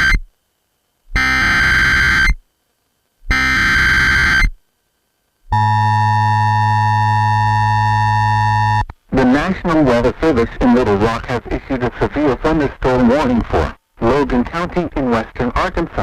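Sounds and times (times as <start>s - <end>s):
steady attention tone: 0.0s - 0.3s, 1.1s - 2.4s, 3.3s - 4.6s, 5.5s - 15.8s.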